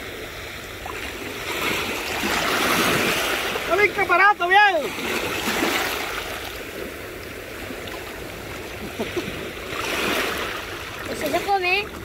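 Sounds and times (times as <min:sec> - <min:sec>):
sea waves washing: 0:00.0 - 0:12.0.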